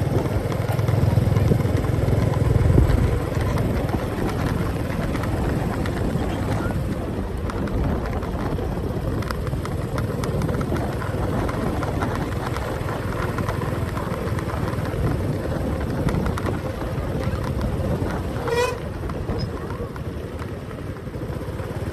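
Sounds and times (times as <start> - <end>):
motorcycle engine running: 0.0 - 21.9
road noise: 0.0 - 21.9.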